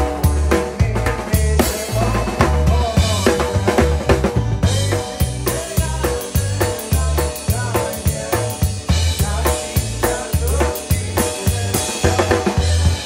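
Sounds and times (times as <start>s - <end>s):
bass line: 0.0s - 13.0s
snare and bass drum beat: 0.0s - 13.0s.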